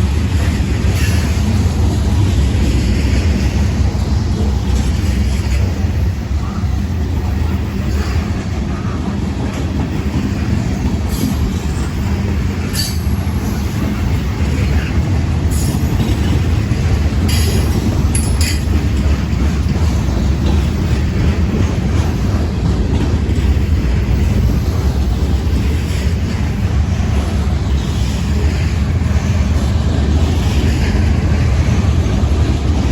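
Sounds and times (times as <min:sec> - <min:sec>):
freight train cars rumbling: 0:00.0 - 0:32.9.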